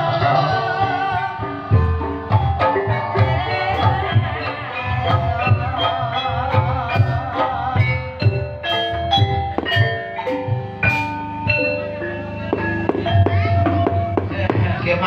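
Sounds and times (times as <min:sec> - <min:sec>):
metallophones playing melody: 0:00.0 - 0:15.0
wavering melodic line: 0:00.4 - 0:15.0
steady drum beat: 0:00.7 - 0:15.0.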